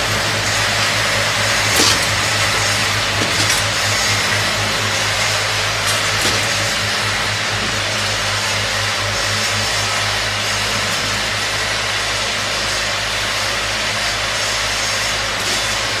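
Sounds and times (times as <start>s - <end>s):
factory machinery humming and hissing: 0.0s - 16.0s.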